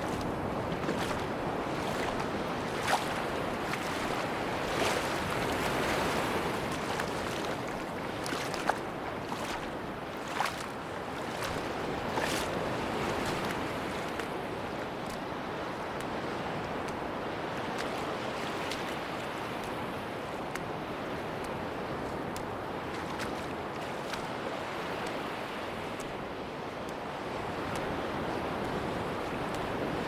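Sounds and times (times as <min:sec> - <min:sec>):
sea surf washing onto beach: 0:00.0 - 0:30.0.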